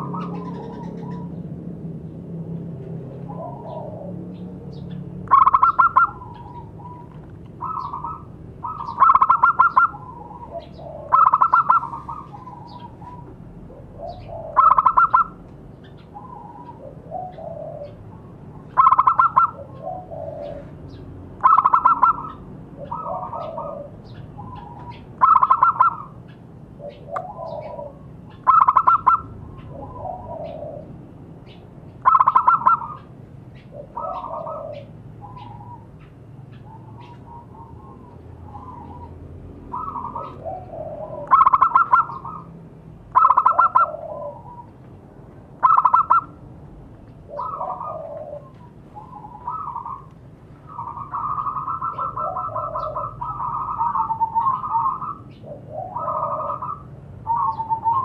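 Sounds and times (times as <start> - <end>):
dove cooing: 0.0 - 1.4, 3.0 - 44.9, 45.5 - 46.4, 47.2 - 58.0.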